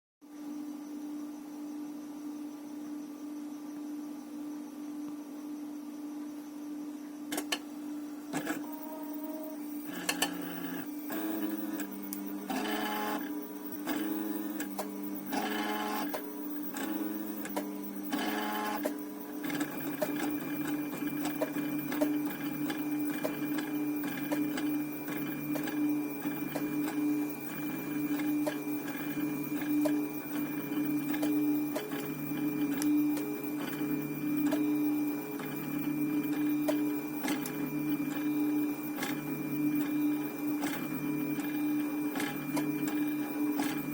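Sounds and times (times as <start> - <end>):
stepper motors whining: 8.3 - 43.9.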